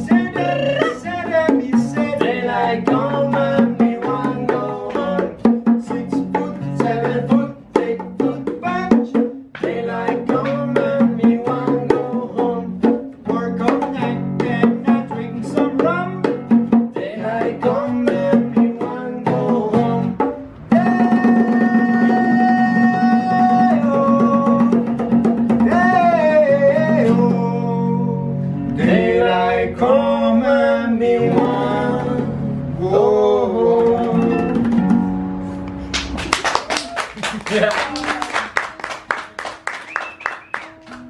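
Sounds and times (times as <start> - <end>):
bongos played by hand: 0.0 - 28.0, 31.2 - 32.4, 33.8 - 41.0
classical guitar strummed and picked: 0.0 - 35.9, 40.1 - 41.0.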